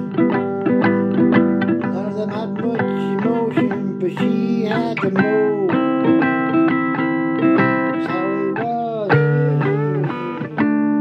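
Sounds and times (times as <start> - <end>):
guitar plucked notes: 0.0 - 11.0.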